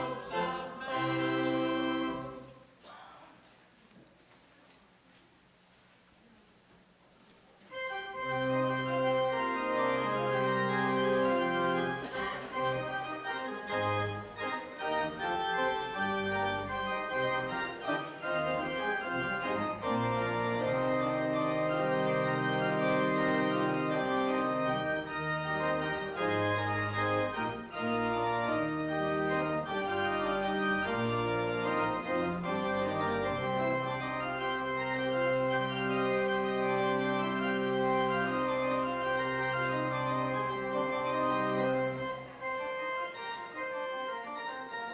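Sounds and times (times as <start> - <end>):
organ playing held chords: 0.0 - 2.5, 7.7 - 44.9.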